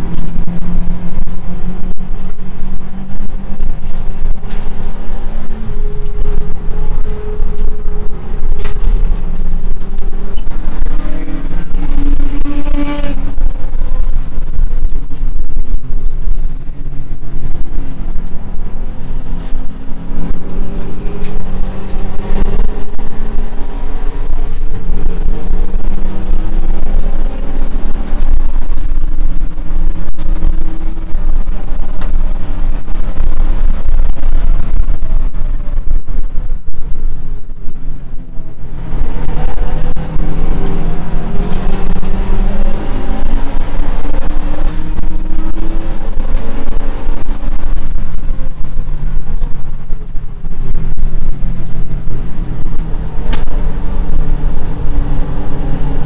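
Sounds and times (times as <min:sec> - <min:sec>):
race car engine accelerating: 0:00.0 - 0:36.4, 0:38.0 - 0:56.0.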